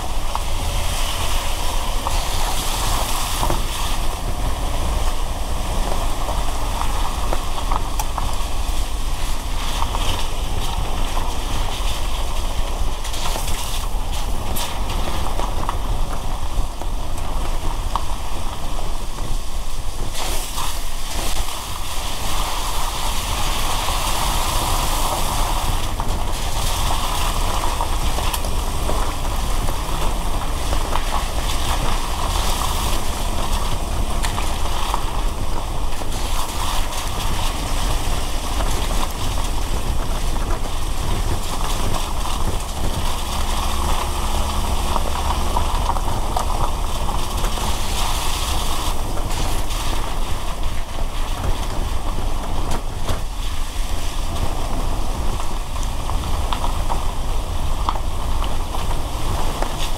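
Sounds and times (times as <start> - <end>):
low road rumble: 0.0 - 59.9
rain and tyre spray hiss: 0.0 - 59.9.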